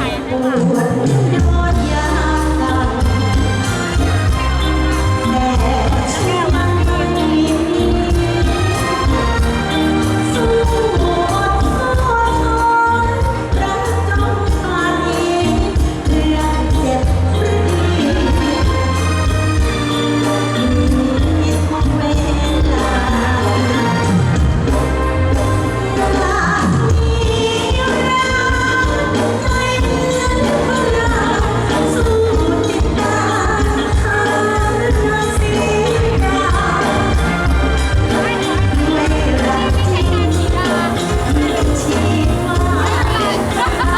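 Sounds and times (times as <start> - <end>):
heavy bass: 0.0 - 43.9
person singing: 0.0 - 43.9
steady drum beat: 0.0 - 43.9.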